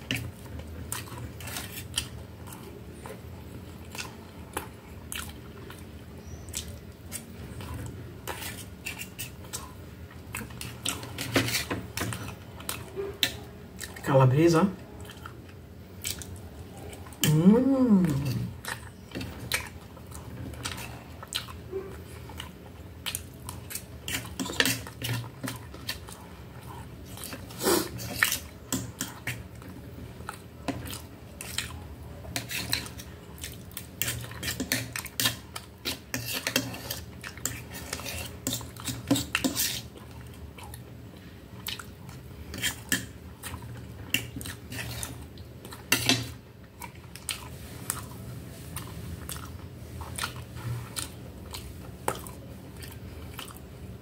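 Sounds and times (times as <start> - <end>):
close-up chewing: 0.0 - 14.0, 14.8 - 54.0.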